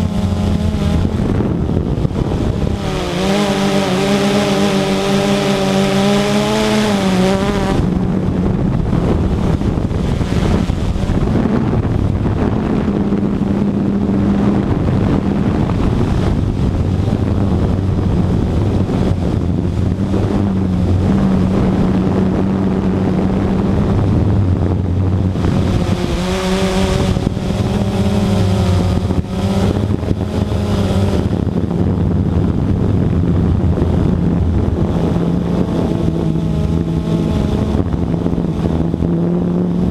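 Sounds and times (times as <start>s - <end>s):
model aircraft motor drone: 0.0s - 39.9s
wind on microphone: 0.0s - 39.9s.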